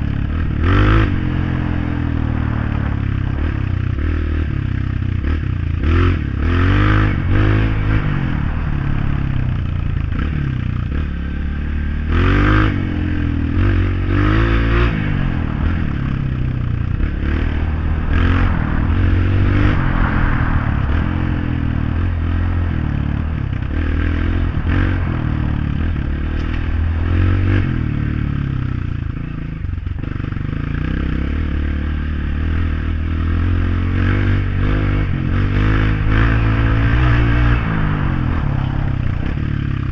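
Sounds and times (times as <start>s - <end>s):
motorcycle engine revving: 0.0s - 39.9s
noisy riding rumble: 0.0s - 39.9s.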